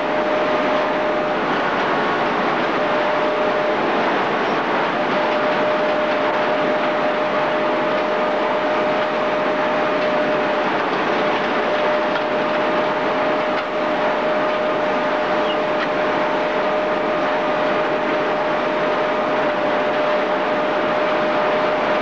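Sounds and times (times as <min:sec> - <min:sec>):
constant mechanical whine: 0:00.0 - 0:22.0.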